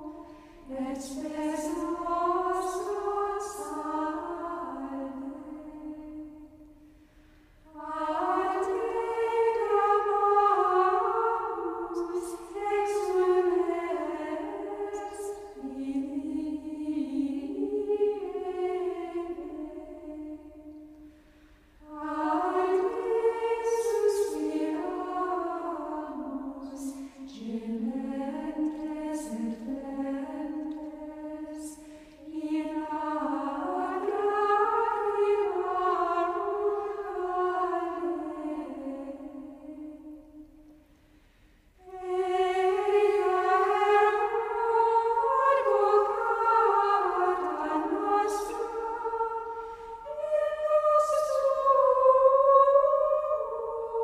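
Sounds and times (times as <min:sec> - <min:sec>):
choir singing plainchant: 0:00.0 - 0:06.8, 0:07.7 - 0:21.1, 0:21.8 - 0:40.7, 0:41.8 - 0:54.0.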